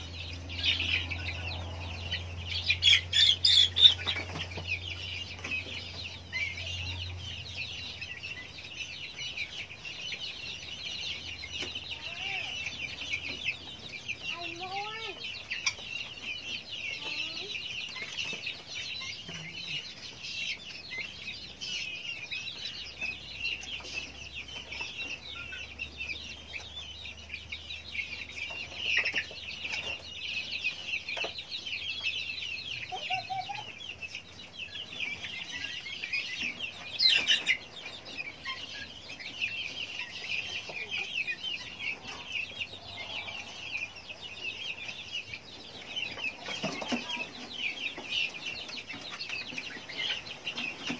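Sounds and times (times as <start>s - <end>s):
young guineafowl chirping: 0.0s - 50.9s.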